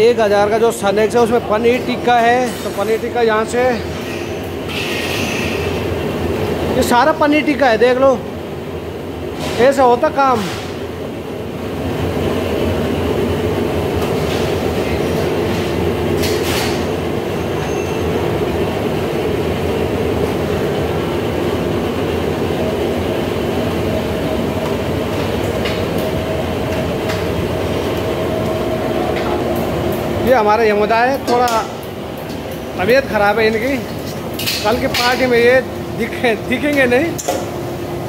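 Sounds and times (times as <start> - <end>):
kitchen equipment and ventilation hum: 0.0 - 38.0.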